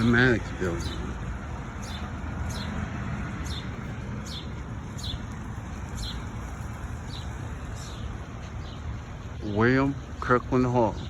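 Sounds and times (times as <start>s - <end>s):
small bird chirping: 0.0s - 9.8s.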